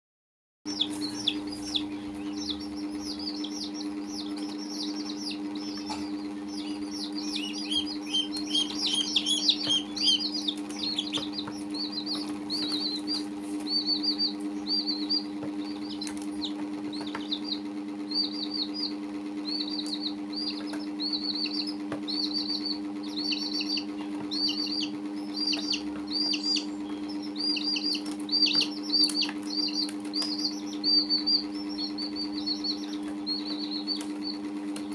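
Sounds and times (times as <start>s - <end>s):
baby chicks peeping: 0.7s - 34.9s
steady low hum: 0.7s - 34.9s.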